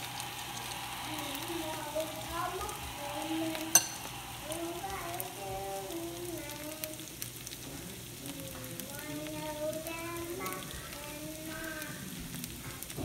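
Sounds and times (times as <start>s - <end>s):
potato cakes sizzling in pan: 0.0s - 13.0s.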